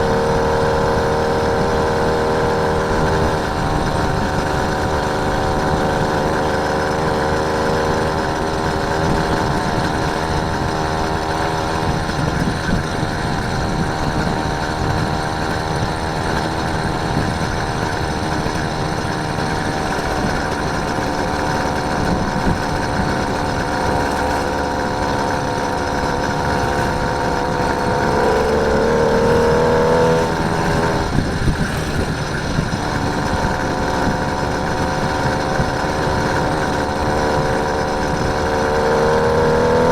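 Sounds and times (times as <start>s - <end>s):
small bicycle engine running: 0.0s - 39.9s.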